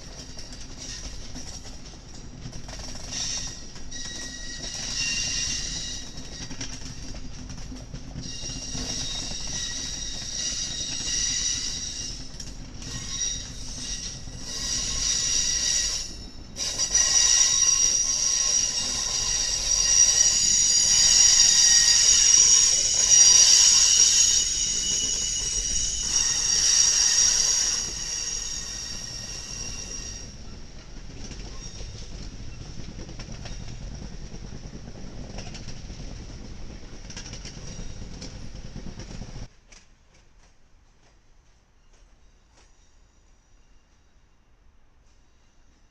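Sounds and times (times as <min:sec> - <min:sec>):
train wheels squealing: 0:00.0 - 0:35.8, 0:37.0 - 0:39.5, 0:41.7 - 0:45.9.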